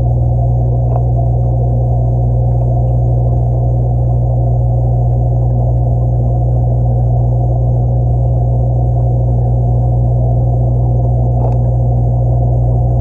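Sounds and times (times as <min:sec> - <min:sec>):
underwater motor hum: 0:00.0 - 0:13.0.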